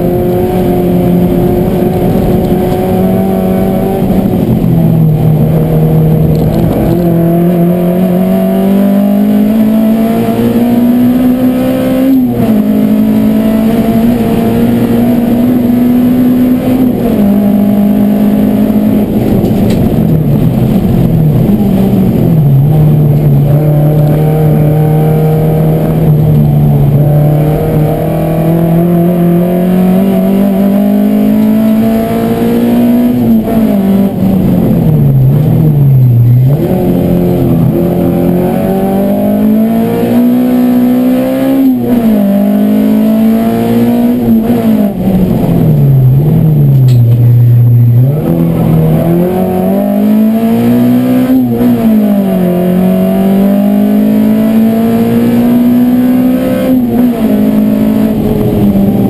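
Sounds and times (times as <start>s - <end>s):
race car engine from inside cabin: 0.0s - 59.0s.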